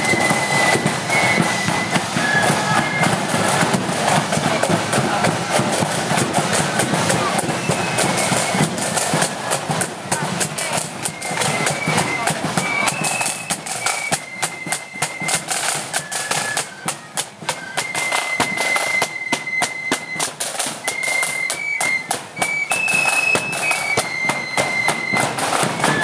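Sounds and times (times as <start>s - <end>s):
shrill flute melody: 0.0s - 26.0s
side drums and bass drum: 0.0s - 26.0s.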